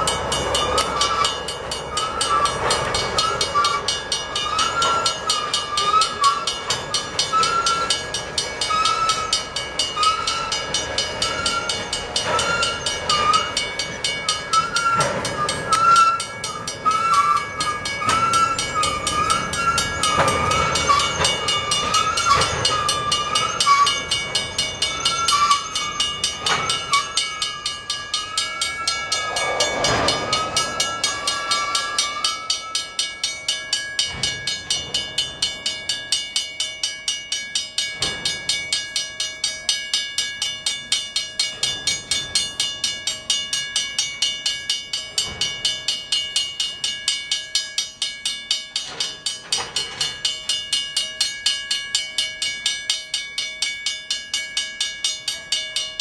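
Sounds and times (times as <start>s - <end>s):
crossing bell ringing: 0.0s - 56.0s
train cars clanking: 0.0s - 56.0s
train wheels squealing: 0.0s - 56.0s.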